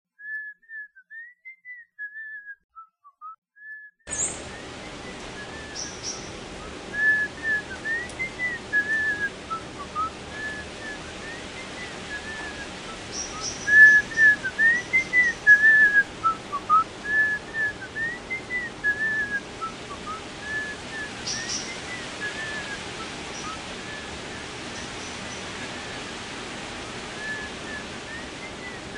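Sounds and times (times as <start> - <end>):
woman whistling a melody: 0.2 - 6.0, 7.0 - 22.8, 27.2 - 28.9
wind blowing through trees: 4.1 - 28.9.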